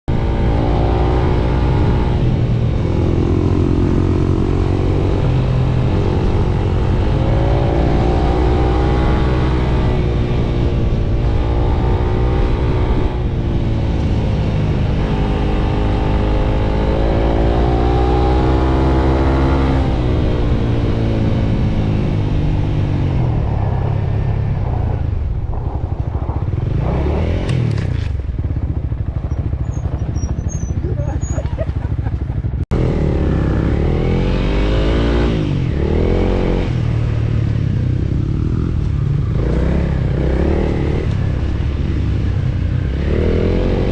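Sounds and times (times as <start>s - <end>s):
motorcycle engine revving: 0.1s - 43.9s.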